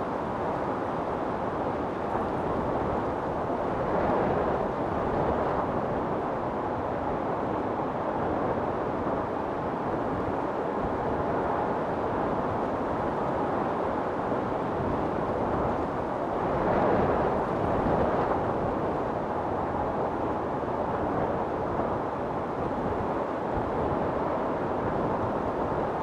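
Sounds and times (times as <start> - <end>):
strong wind blowing: 0.0 - 26.0.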